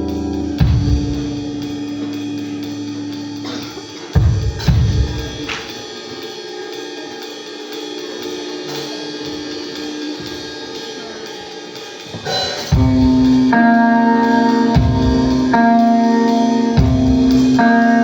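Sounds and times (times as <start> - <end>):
cymbals: 0.0 - 18.0
guitar tones: 0.0 - 18.0
rock band playing loud: 0.0 - 18.0.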